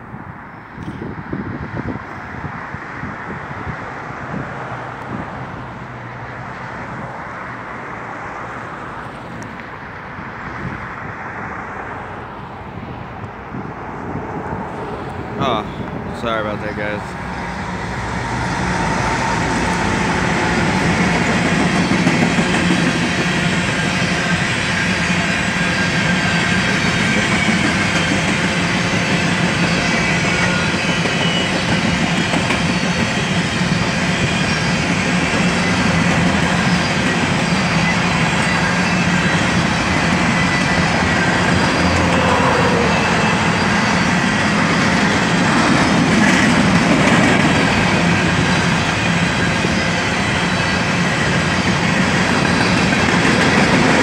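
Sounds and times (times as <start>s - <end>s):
diesel locomotive: 0.0s - 54.0s
wheels rumbling on rail: 0.0s - 54.0s.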